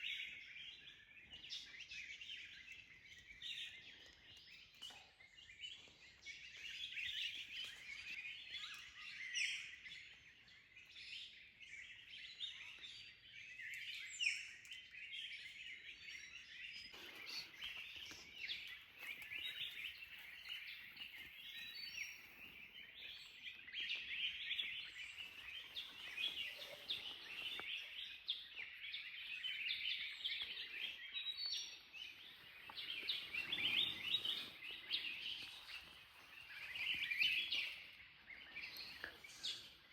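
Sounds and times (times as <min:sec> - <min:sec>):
wild birds chirping and calling: 0:00.0 - 0:39.9.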